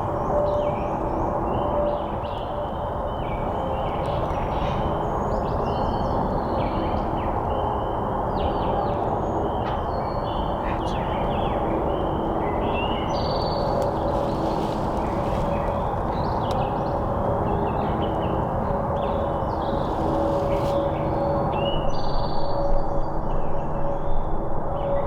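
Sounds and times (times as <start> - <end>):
songbirds chirping: 0.0 - 22.4.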